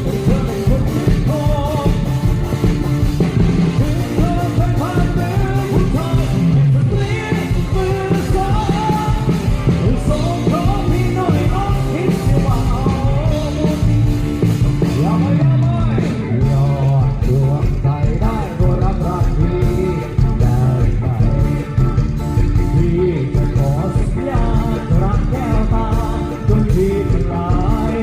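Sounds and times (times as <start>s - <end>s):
live dance band playing: 0.0s - 28.0s
person singing: 0.0s - 28.0s
steady drum beat: 0.0s - 28.0s.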